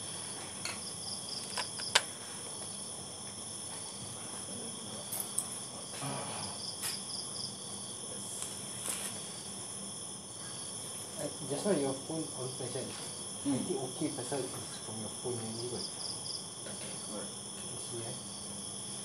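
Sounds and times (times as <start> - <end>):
crickets trilling: 0.0 - 19.0
pulsed insect chirping: 0.0 - 19.0.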